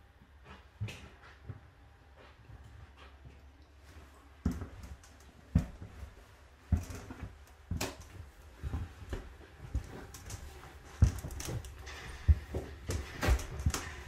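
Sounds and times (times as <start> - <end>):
footsteps on cabin floor: 0.2 - 14.0.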